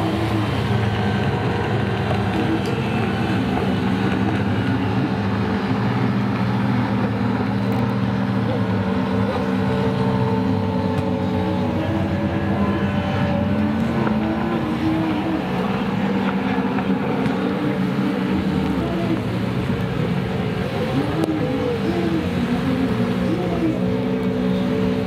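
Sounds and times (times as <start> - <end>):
jet skis at high revs: 0.0 - 25.0.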